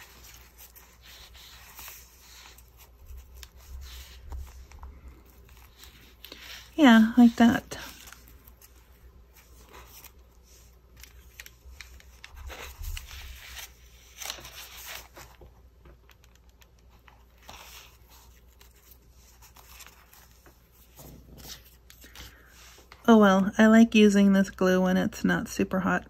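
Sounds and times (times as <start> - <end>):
paper rustling and crinkling: 0.0 - 23.0.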